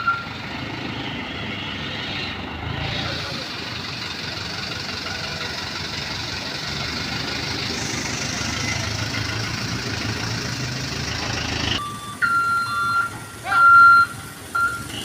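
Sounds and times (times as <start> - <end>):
truck engine idling: 2.4 - 15.0.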